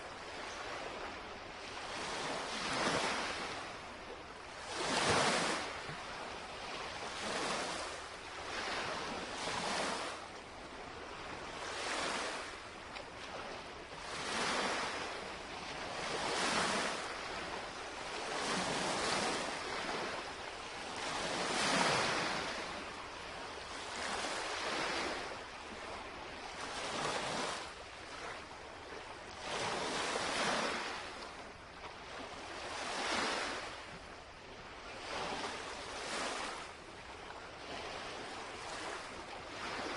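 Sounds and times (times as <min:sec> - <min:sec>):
lake waves lapping shoreline: 0:00.0 - 0:39.9.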